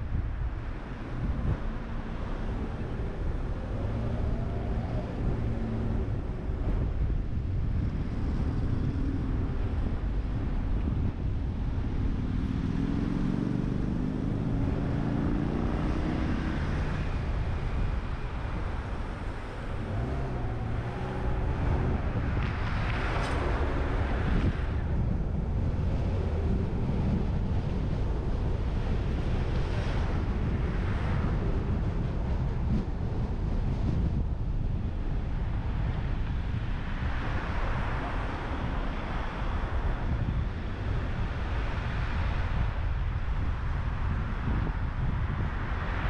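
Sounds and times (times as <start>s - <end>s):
car engine and road rumble: 0.0s - 46.0s
rush of noise: 0.0s - 46.0s
wind buffeting microphone: 0.0s - 46.0s.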